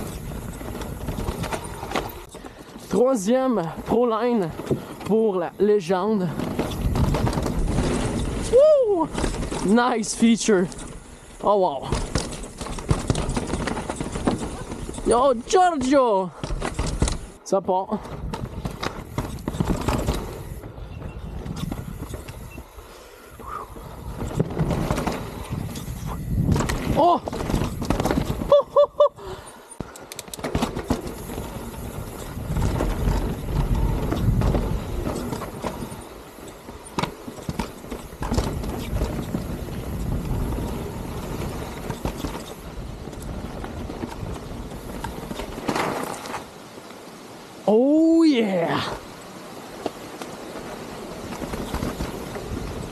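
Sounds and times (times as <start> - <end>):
bike rattling and clicking: 0.0 - 46.9, 49.7 - 52.9
bike tyres on dirt and rock: 0.0 - 52.9.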